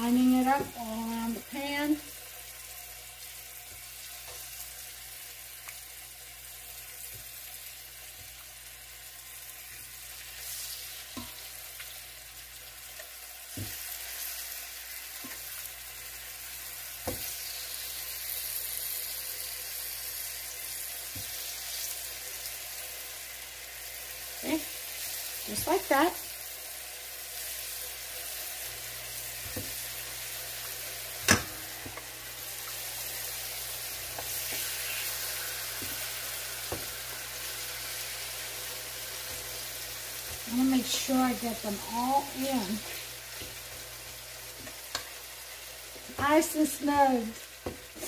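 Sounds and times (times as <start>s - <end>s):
chicken sizzling in oil: 0.0s - 48.0s.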